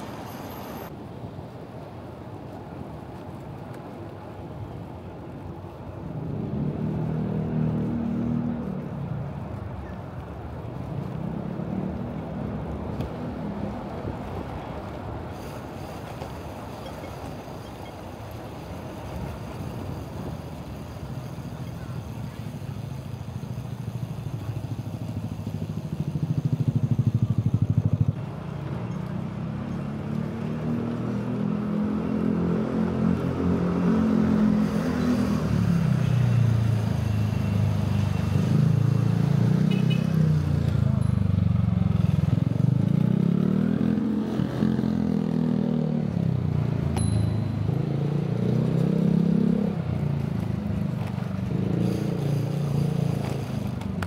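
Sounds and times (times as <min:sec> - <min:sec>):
vehicle engines accelerating: 0:00.0 - 0:00.9, 0:05.7 - 0:54.0
steady road noise: 0:00.0 - 0:54.0.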